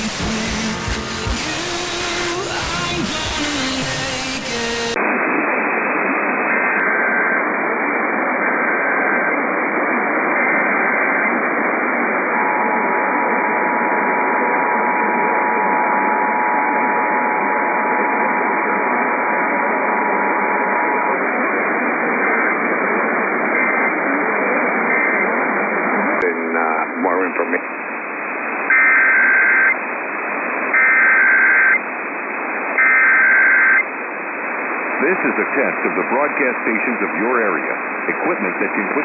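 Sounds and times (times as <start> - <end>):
radio static hiss: 0.0 - 39.0.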